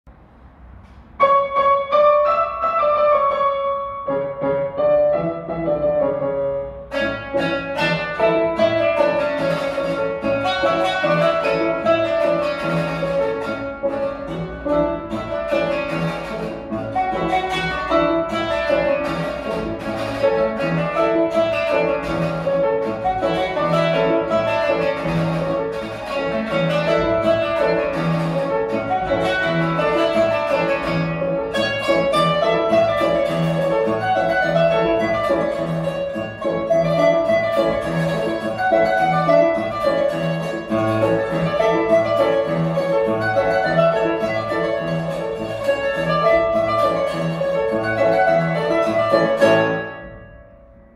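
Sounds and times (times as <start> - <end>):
piano chords: 0.1 - 50.9
qanun plucked notes: 1.0 - 50.6.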